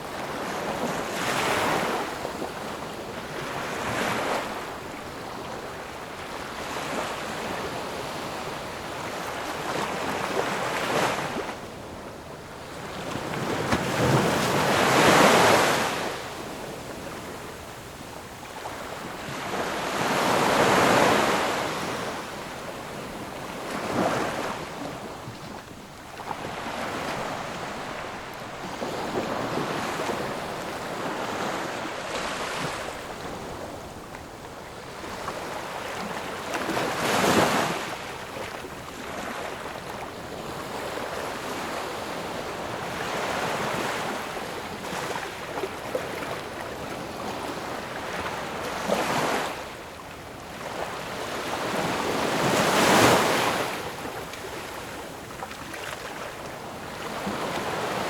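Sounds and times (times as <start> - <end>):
ocean waves washing ashore: 0.0 - 58.0.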